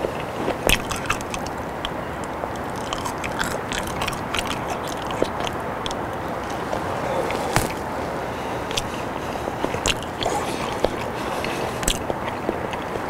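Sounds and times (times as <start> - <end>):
low background rumble: 0.0 - 13.0
wet chewing mouth clicks: 0.0 - 13.0.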